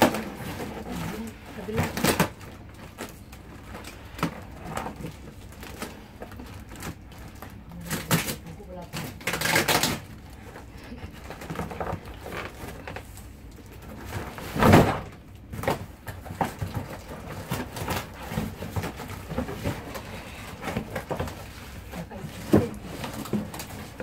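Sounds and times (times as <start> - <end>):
boxes being moved about: 0.0 - 24.0.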